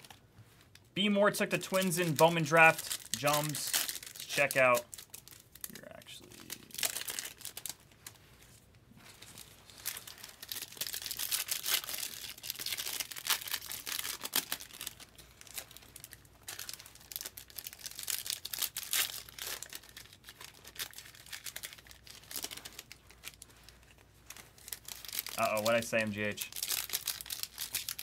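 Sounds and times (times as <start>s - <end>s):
plastic wrappers crinkling and tearing: 0.0s - 28.0s.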